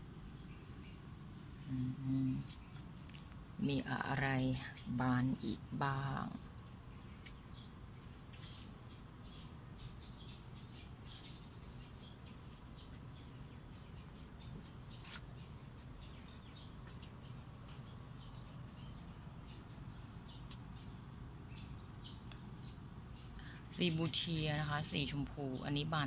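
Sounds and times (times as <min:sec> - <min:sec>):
low steady rumble: 0:00.0 - 0:26.0
small birds chirping: 0:00.0 - 0:26.0.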